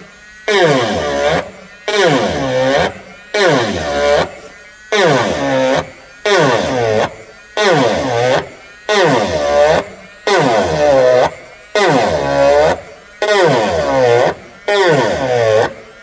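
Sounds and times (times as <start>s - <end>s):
rotary tool grinding: 0.0s - 16.0s.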